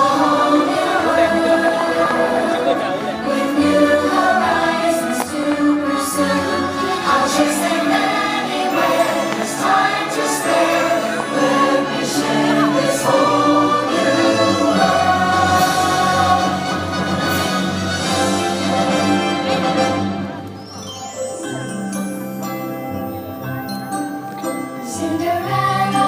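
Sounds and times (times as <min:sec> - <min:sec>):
choir singing held notes: 0:00.0 - 0:22.0, 0:24.4 - 0:26.0
orchestral music: 0:00.0 - 0:26.0.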